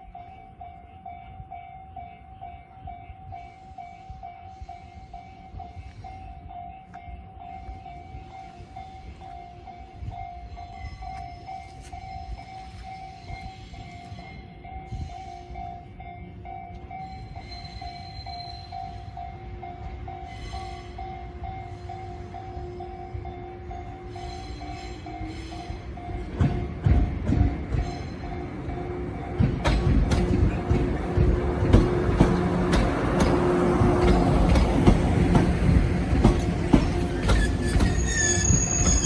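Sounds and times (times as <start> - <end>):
electric train rumbling by: 0.0 - 39.0
level-crossing warning bell: 0.0 - 39.0.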